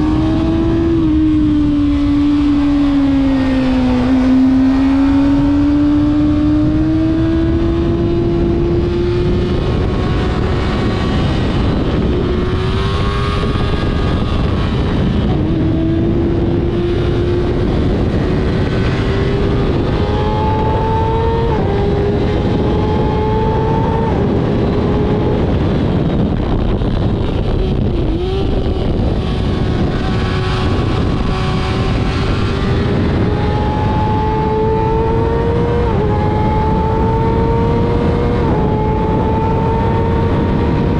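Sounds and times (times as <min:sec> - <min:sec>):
motorcycle engine pulling hard: 0:00.0 - 0:40.9
wind rush on microphone: 0:00.0 - 0:40.9.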